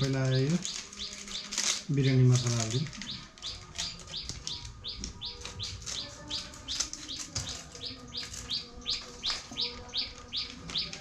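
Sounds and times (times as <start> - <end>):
foil packet crinkling: 0.0 - 11.0
small bird chirping: 0.3 - 11.0.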